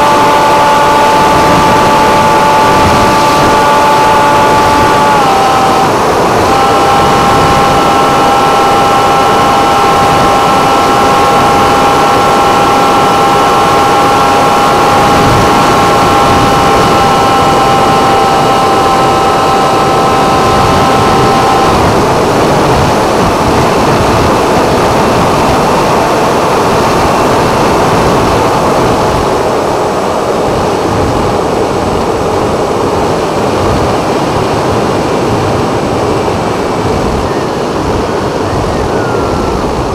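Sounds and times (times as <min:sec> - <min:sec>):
electric motor whine: 0:00.0 - 0:34.1
wind rush: 0:00.0 - 0:39.9.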